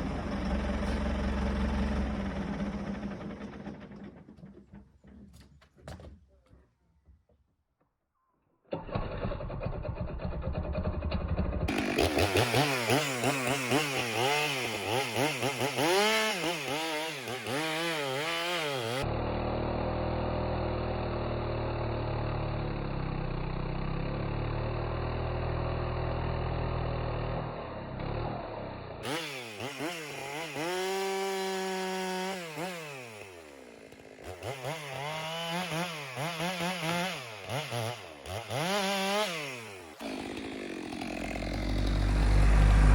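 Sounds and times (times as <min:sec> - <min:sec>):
chainsaw sawing a log: 0:00.0 - 0:04.4, 0:11.7 - 0:42.9.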